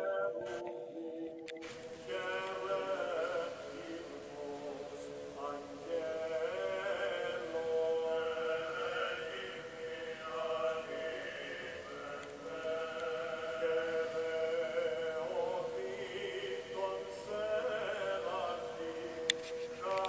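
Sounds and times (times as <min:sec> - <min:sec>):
slow chant-like singing: 0:00.0 - 0:20.0.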